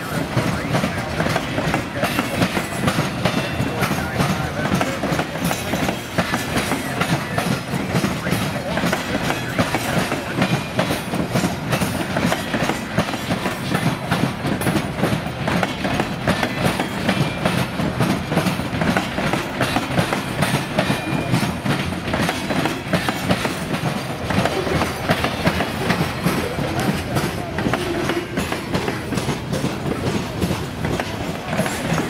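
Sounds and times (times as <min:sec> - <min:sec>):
freight train wheels clattering: 0:00.0 - 0:32.0.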